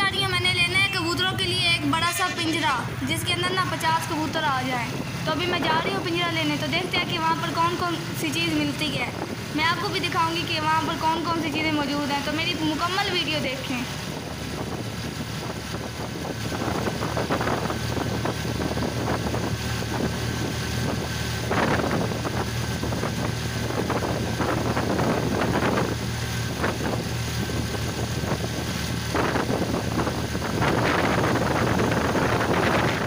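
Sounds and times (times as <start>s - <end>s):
vehicle engine hum: 0.0s - 33.0s
wind buffeting microphone: 0.0s - 33.0s.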